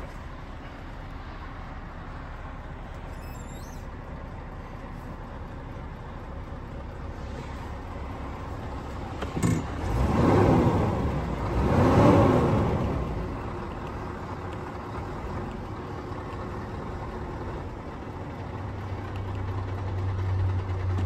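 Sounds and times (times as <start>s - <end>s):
diesel engine idling and revving: 0.0s - 21.0s.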